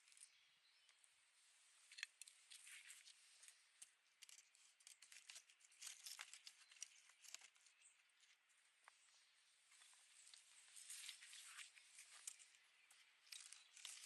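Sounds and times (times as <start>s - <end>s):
dry crackling and rustling: 1.9s - 14.0s.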